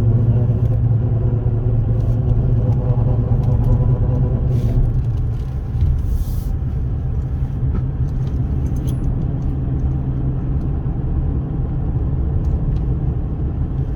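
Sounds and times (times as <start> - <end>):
pickup truck engine rumbling: 0.0 - 13.9.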